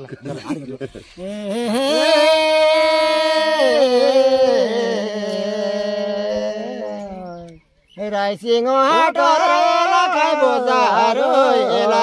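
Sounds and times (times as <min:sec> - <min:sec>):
man singing unaccompanied: 0:01.2 - 0:12.0.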